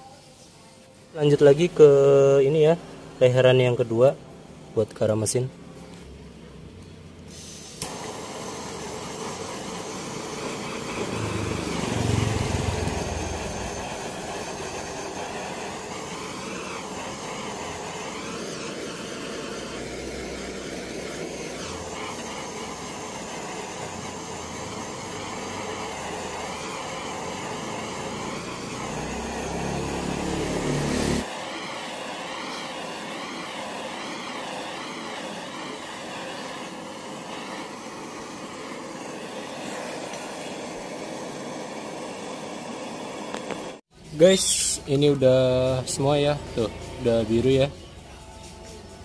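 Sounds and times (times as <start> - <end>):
gas torch hissing roar: 1.1 - 4.2, 6.1 - 47.8.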